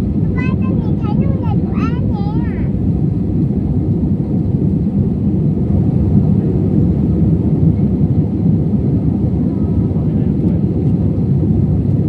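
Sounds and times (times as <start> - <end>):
airliner engine roar: 0.0 - 12.0.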